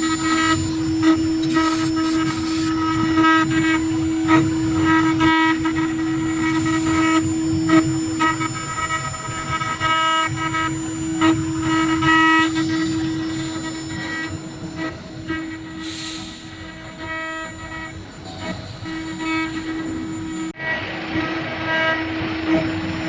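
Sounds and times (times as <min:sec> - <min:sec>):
ringing tones of bit cutting metal: 0:00.0 - 0:20.5
router spindle whine: 0:00.0 - 0:23.0.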